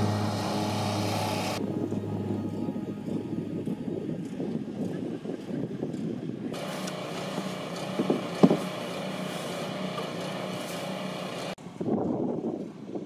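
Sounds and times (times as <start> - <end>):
engine humming: 0.0 - 11.8.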